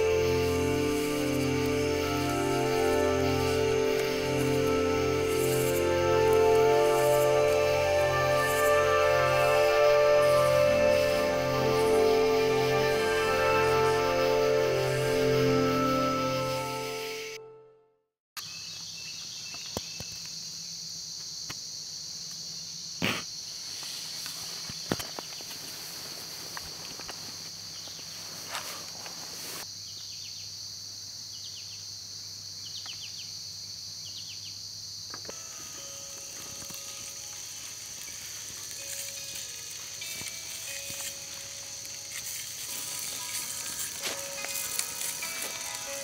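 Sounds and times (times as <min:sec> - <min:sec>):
insects chirring: 0:00.0 - 0:17.4, 0:18.4 - 0:46.0.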